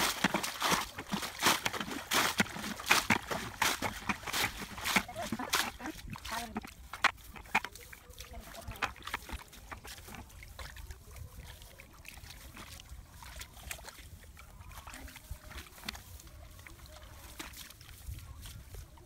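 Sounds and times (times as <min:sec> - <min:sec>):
hands sloshing in muddy water: 0:00.0 - 0:19.0
small water splashes: 0:00.0 - 0:19.0.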